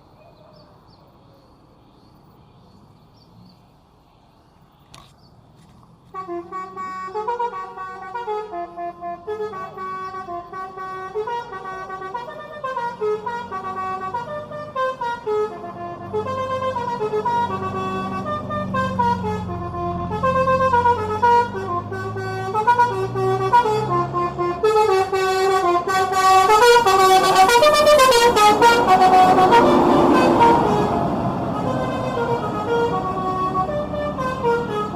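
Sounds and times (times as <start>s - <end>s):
bus engine running: 4.9s - 34.9s
musical bus horn melody: 6.1s - 34.9s.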